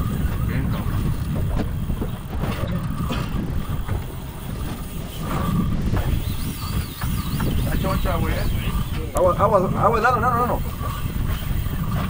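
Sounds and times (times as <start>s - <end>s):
boat motor running: 0.0s - 12.0s
wind rumbling on microphone: 0.0s - 12.0s.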